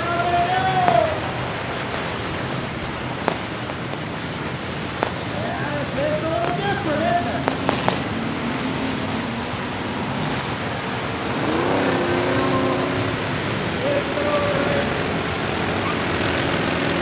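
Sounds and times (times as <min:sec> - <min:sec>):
racing car engines: 0:00.0 - 0:17.0
engine revving: 0:00.8 - 0:17.0.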